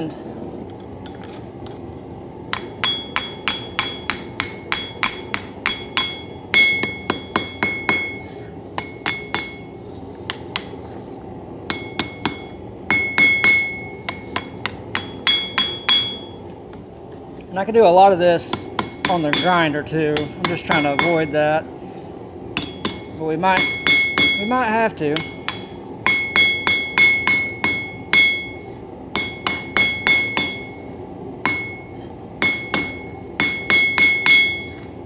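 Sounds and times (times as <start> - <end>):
hammer ringing on anvil: 2.5 - 11.0, 11.7 - 16.5, 18.5 - 21.6, 22.6 - 35.0.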